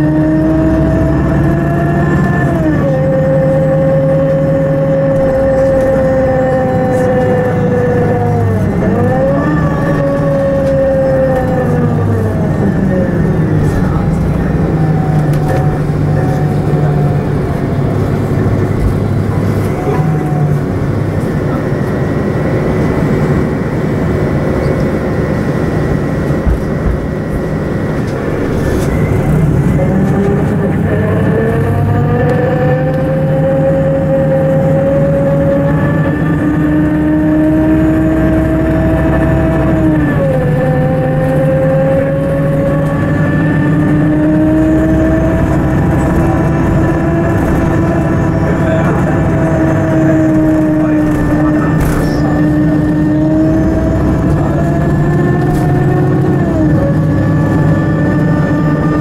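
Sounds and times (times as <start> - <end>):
bus engine rumbling with whine: 0.0 - 59.0.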